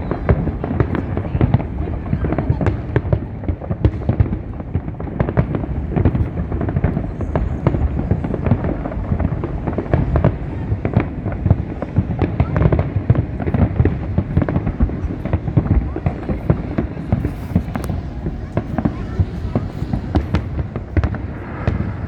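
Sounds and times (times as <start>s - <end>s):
fireworks bangs and crackling: 0.0s - 22.0s
low rumble of detonations: 0.0s - 22.0s.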